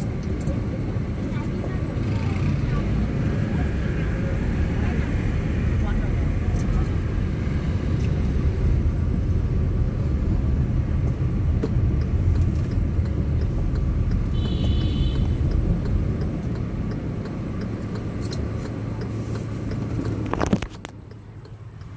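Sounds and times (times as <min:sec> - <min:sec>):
street traffic rumble: 0:00.0 - 0:21.9.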